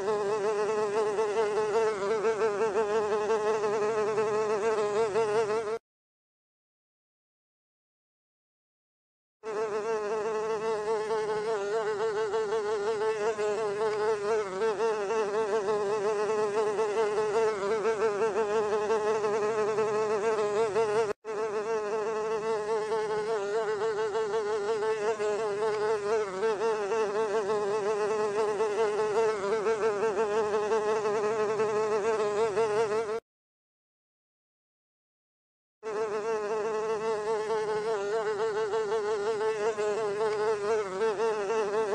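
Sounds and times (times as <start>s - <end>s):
housefly buzzing: 0.0s - 5.8s, 9.4s - 33.3s, 35.8s - 41.9s.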